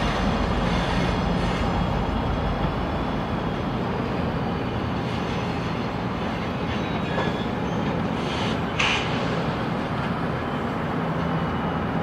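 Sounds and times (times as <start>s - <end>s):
freight cars rolling: 0.0s - 12.0s
locomotive engine rumble: 0.0s - 12.0s.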